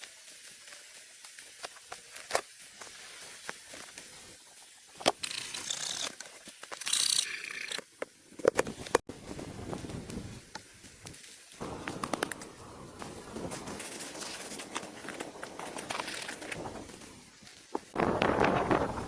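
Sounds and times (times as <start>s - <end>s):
scratchy hissing noise bursts: 0.0s - 7.7s, 8.7s - 19.0s.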